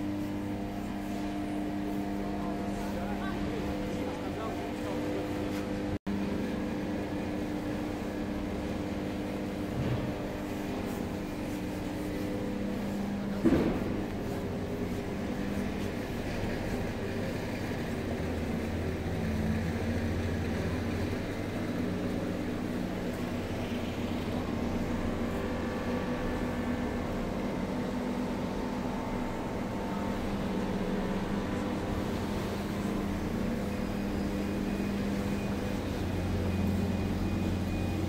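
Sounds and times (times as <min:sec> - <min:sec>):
low mechanical hum: 0:00.0 - 0:38.0.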